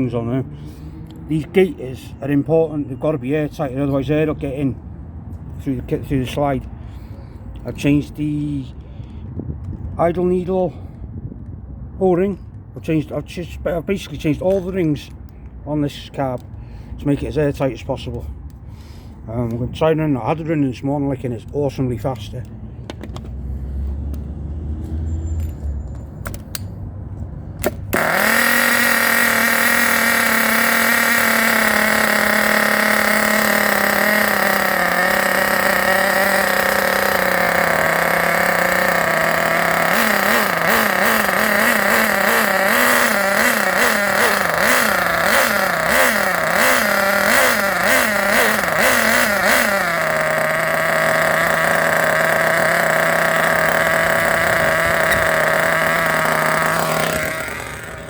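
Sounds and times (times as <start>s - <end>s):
model engine revving and idling: 0.0s - 8.9s, 12.8s - 25.7s, 26.3s - 58.0s.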